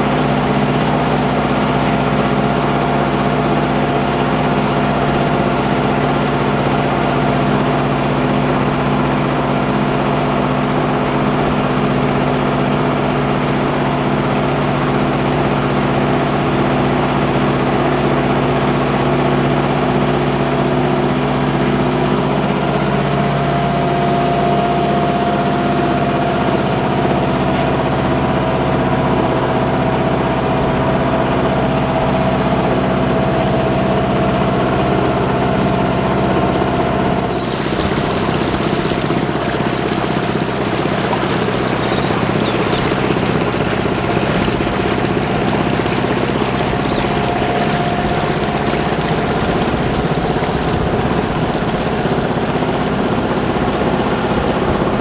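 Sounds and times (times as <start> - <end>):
boat engine hum with whine: 0.0 - 55.0.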